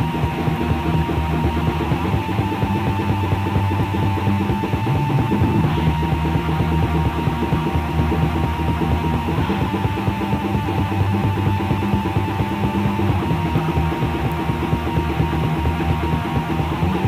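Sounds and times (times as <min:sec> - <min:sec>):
dense rapid drumming: 0:00.0 - 0:17.0
distorted guitars and bass: 0:00.0 - 0:17.0.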